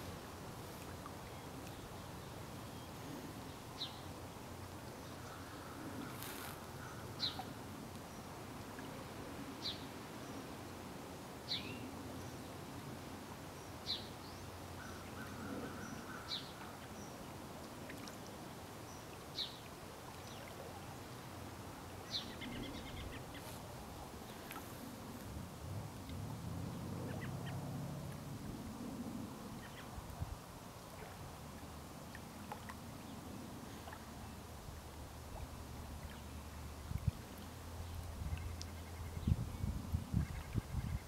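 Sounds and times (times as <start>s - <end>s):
open-air hiss: 0.0s - 41.0s.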